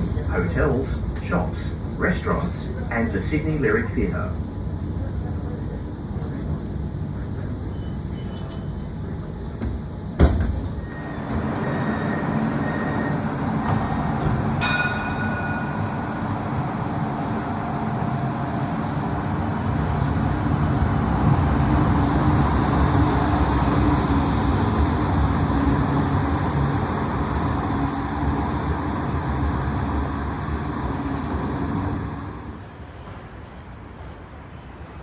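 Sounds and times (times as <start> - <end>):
tram rumbling past: 0.0 - 35.0.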